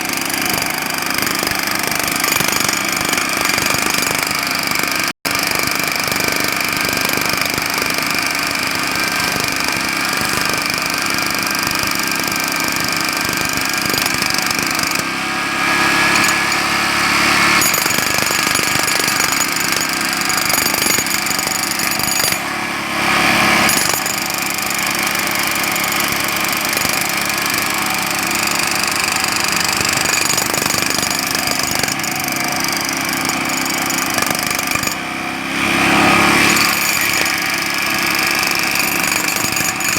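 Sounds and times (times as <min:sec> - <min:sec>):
jackhammer hammering: 0:00.0 - 0:39.9.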